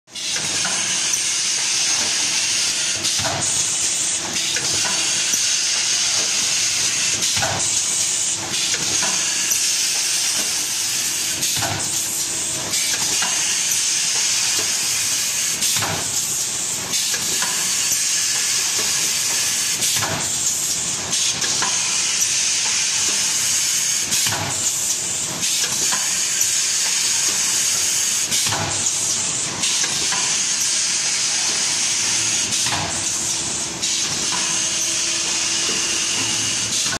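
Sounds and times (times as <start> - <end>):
machine hiss: 0.2 - 36.9.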